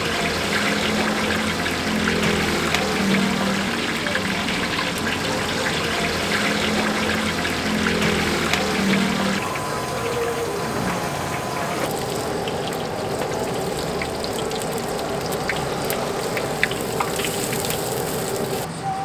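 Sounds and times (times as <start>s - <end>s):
oil bubbling and sizzling: 0.0s - 18.7s.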